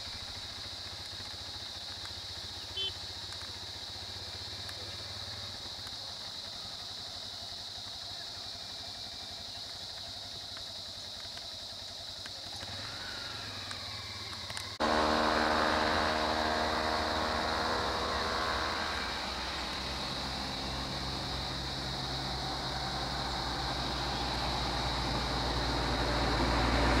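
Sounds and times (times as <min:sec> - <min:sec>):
engine drone: 0:00.0 - 0:27.0
high hiss: 0:00.0 - 0:27.0
vehicle engine idling: 0:00.0 - 0:27.0.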